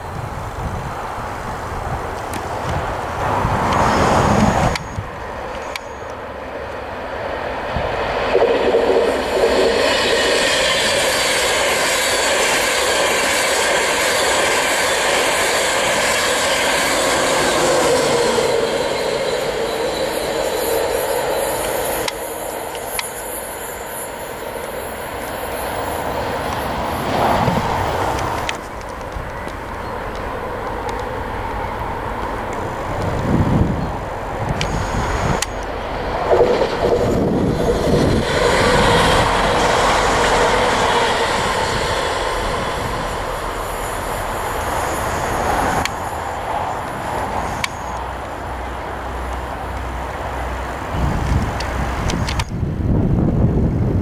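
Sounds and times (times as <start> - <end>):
electric train passing at speed: 0.0 - 54.0
train wheels and air rush: 0.0 - 54.0.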